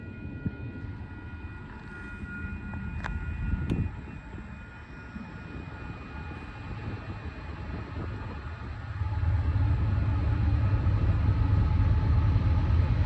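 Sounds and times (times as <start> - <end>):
faint steady tones: 0.0 - 13.0
low rumble of train: 0.0 - 13.0.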